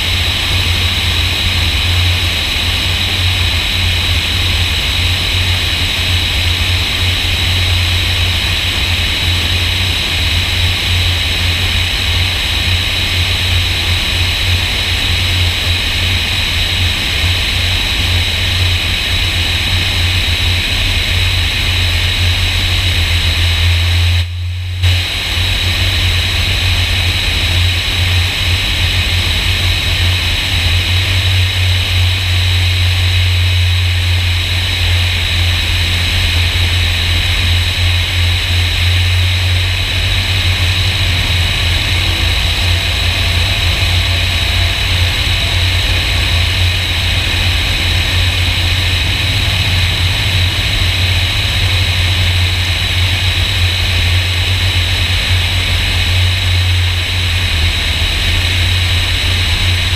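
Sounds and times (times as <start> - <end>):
light airplane engine droning: 0.0 - 59.9.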